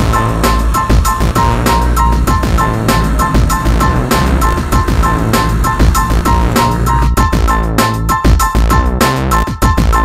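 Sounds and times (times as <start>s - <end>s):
electronic music with heavy bass: 0.0s - 8.0s.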